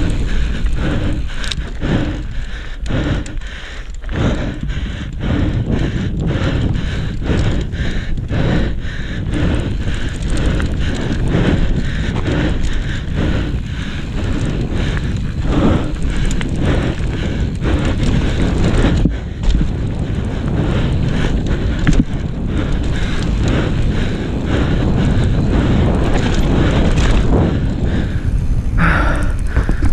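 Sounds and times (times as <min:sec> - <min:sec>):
tyres rolling over loose dirt: 0:00.0 - 0:02.6, 0:06.1 - 0:28.8
bike knocking and rattling: 0:00.0 - 0:29.9
wind buffeting microphone: 0:00.0 - 0:29.9.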